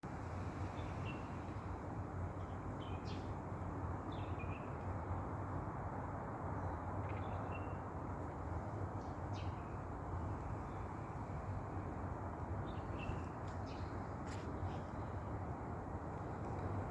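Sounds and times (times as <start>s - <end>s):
steady background noise: 0.0s - 16.9s.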